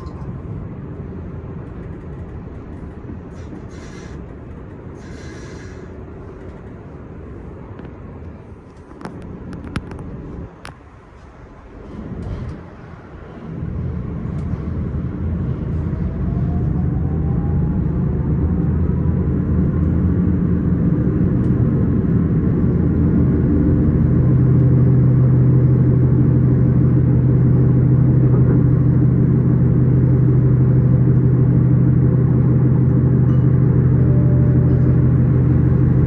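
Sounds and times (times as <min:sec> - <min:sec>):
steady low hum: 0:00.0 - 0:36.0
train rumbling: 0:00.0 - 0:36.0.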